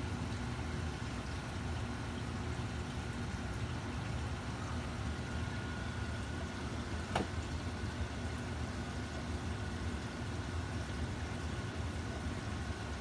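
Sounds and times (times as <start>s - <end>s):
aquarium pumps humming: 0.0s - 13.0s
faint steady tone: 0.0s - 13.0s.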